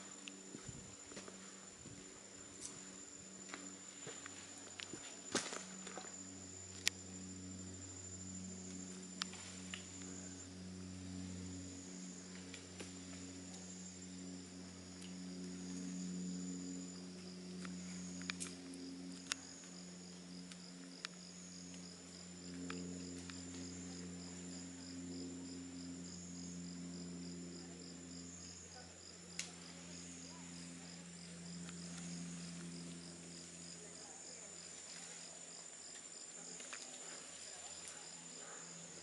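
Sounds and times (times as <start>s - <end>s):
high-pitched insect buzz: 0.0s - 39.0s
low steady hum: 0.0s - 39.0s
pulsing insect chirp: 0.0s - 39.0s.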